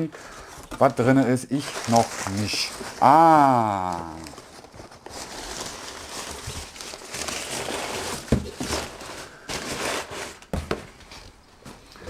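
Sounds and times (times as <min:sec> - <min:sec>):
cardboard scraping: 0:00.0 - 0:11.8
packing paper rustling: 0:00.0 - 0:11.9.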